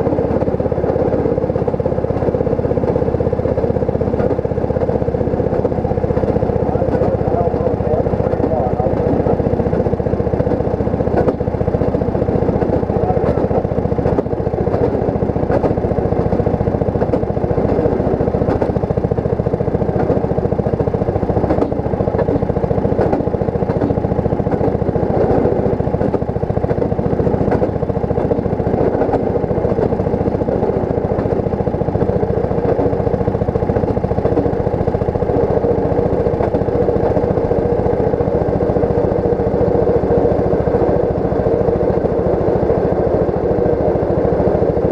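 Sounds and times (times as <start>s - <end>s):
small engine drone: 0.0s - 44.9s
wheels clicking over rail joints: 0.0s - 44.9s.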